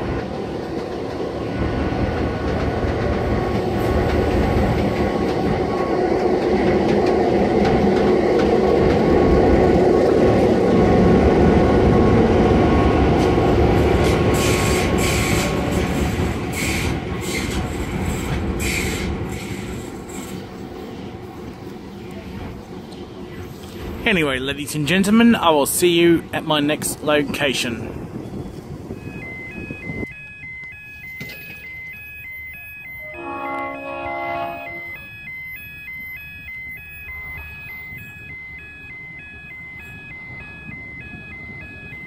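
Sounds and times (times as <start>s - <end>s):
train wheels rumbling on rails: 0.0s - 35.3s
diesel locomotive engine: 0.0s - 42.0s.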